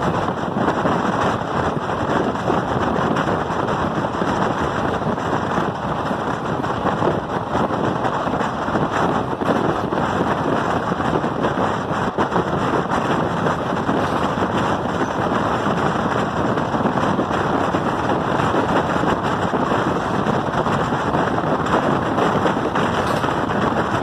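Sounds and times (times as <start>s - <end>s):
moving train running noise: 0.0s - 24.0s
wind noise on microphone: 0.0s - 24.0s.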